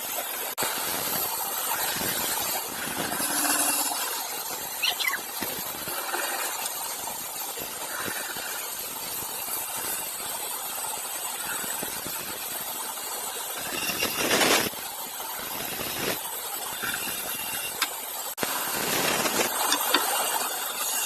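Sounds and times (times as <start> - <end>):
woodworking machinery hissing: 0.0 - 21.0.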